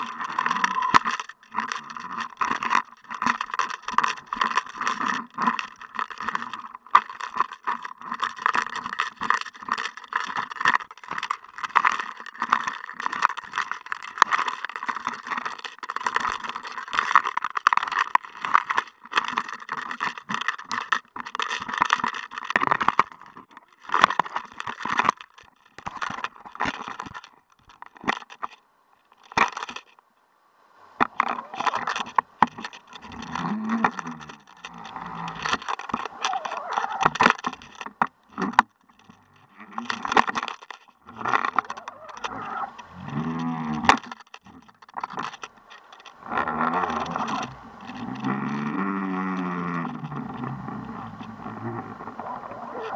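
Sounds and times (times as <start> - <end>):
camera rig rattling underwater: 0.0 - 30.1, 30.8 - 52.9.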